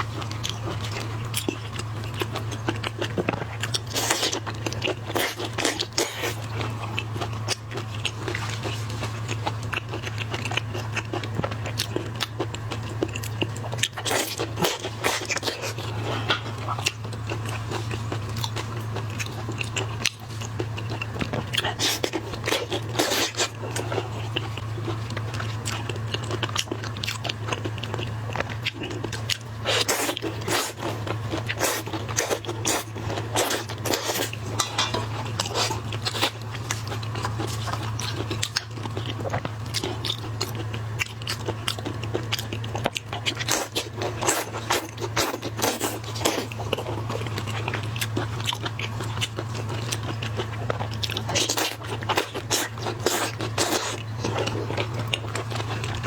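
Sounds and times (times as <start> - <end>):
crunching and chewing seafood: 0.0 - 56.0
steady low hum: 0.0 - 56.0.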